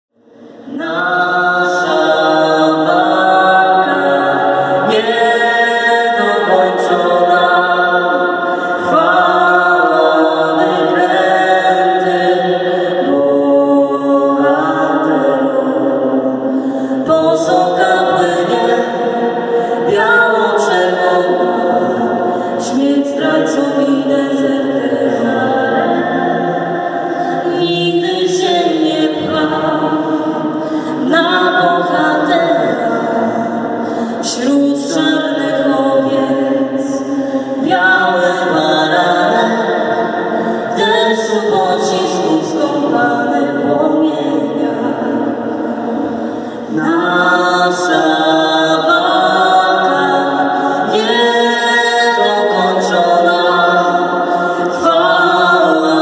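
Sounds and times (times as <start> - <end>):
choir singing a cappella: 0.2 - 56.0.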